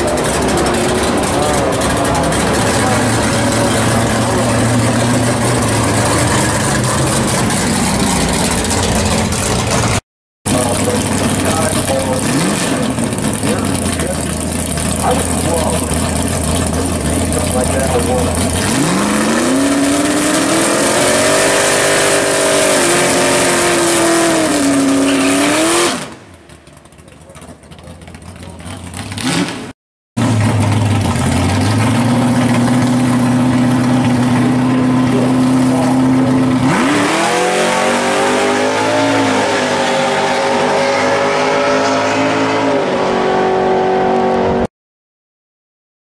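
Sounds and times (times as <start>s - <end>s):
car engine low rumble: 0.0s - 29.6s, 30.2s - 39.4s.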